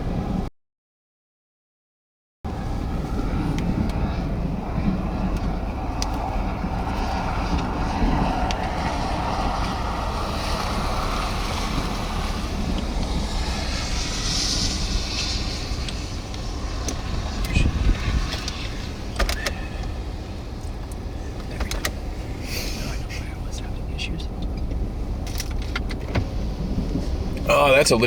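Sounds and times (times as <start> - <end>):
wind buffeting microphone: 0.0 - 0.5, 2.5 - 28.0.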